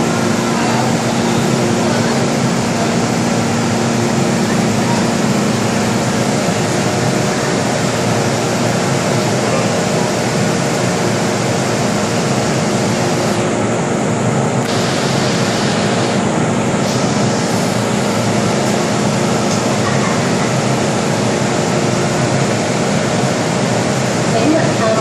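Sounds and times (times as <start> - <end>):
ventilation rushing: 0.0 - 25.0.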